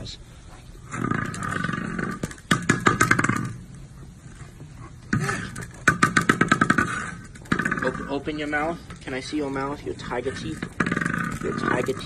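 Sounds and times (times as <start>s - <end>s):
tiger growling: 0.4s - 2.4s, 3.0s - 12.0s.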